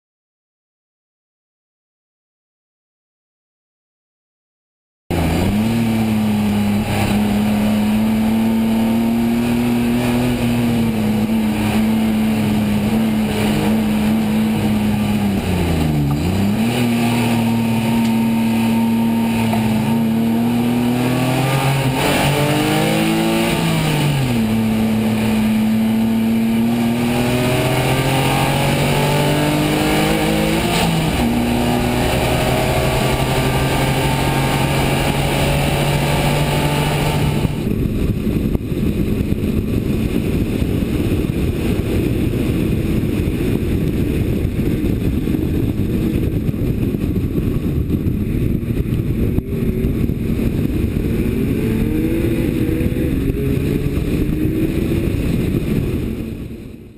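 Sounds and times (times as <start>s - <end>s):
race car engine running hard: 5.1s - 56.9s.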